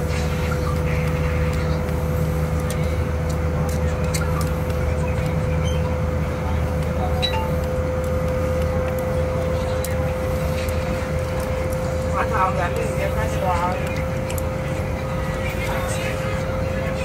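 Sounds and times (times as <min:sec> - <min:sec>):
constant whine: 0:00.0 - 0:17.0.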